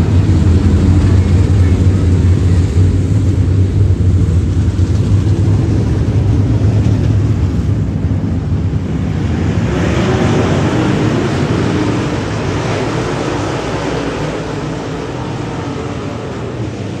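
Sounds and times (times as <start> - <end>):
race car engine drone: 0.0 - 17.0.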